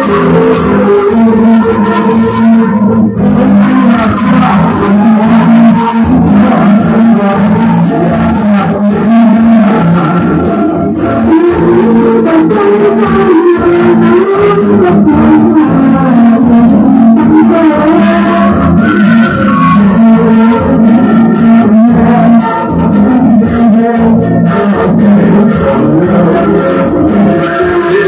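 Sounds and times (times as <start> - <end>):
plucked guitar music: 0.0 - 28.0.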